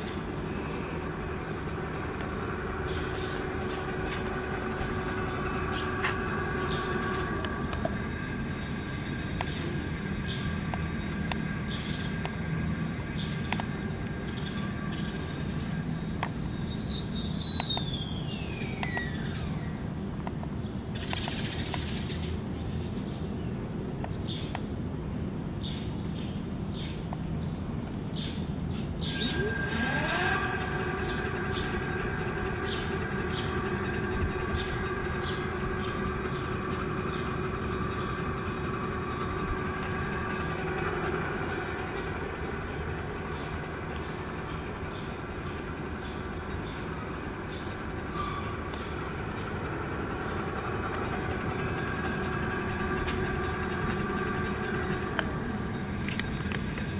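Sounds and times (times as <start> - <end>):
electric hub motor whining: 0.0 - 25.7, 26.5 - 56.9.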